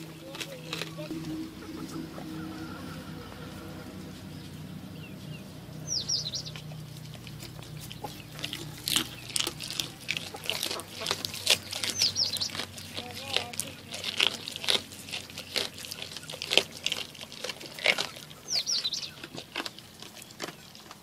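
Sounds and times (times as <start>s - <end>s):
goat chewing with crunching clicks: 0.0s - 2.0s, 5.8s - 21.0s
low steady hum: 0.0s - 19.2s
chickens chirping: 0.0s - 21.0s.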